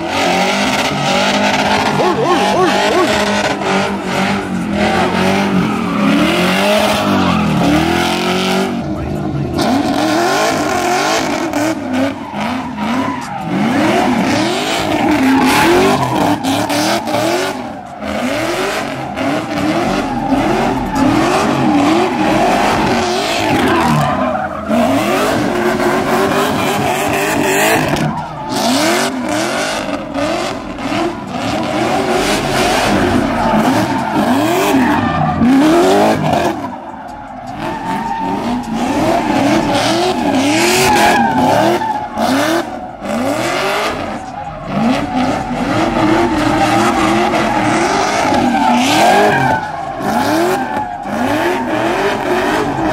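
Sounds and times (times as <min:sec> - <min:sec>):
car engine revving hard: 0:00.0 - 0:52.9
tyres squealing on tarmac: 0:00.1 - 0:52.9.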